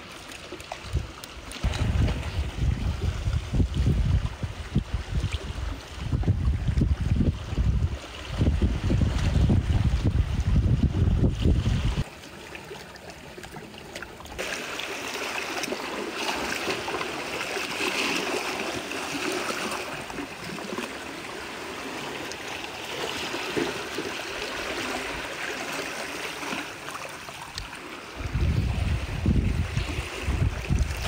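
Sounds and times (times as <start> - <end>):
water trickling and gurgling: 0.0 - 31.0.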